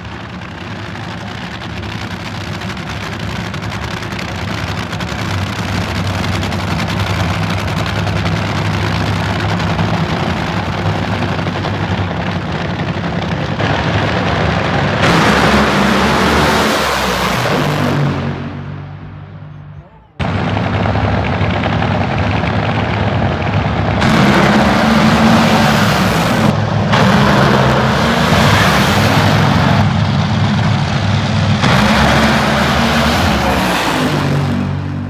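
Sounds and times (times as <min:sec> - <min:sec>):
drag racing engines rumbling: 0:00.0 - 0:35.0
engines at full throttle: 0:00.0 - 0:35.0.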